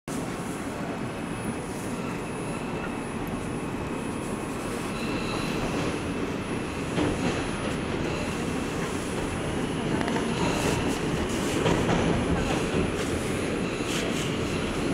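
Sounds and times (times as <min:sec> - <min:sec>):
subway wheels rumbling on rails: 0:00.1 - 0:14.9.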